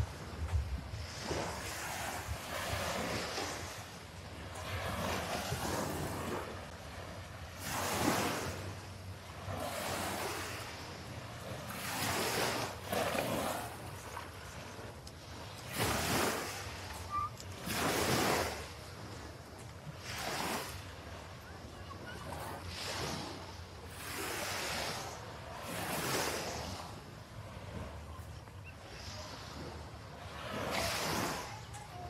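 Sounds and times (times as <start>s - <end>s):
small waves washing onto shore: 0.0s - 32.0s
wind rumble on microphone: 0.0s - 32.0s.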